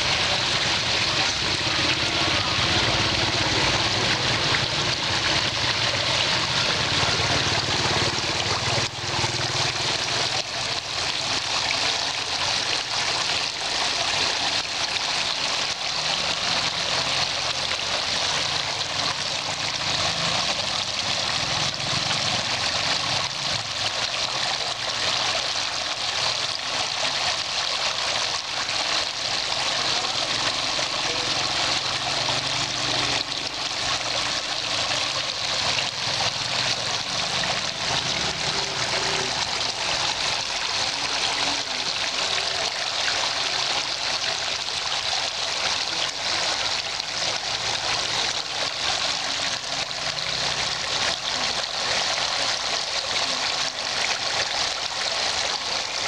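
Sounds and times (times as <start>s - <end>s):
water splashing into a pool: 0.0s - 56.0s.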